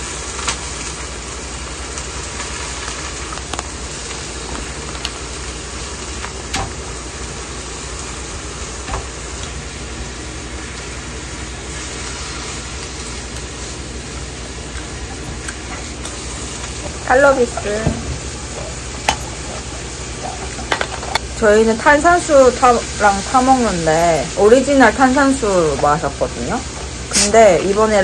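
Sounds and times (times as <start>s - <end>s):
steady hissing noise: 0.0s - 28.0s.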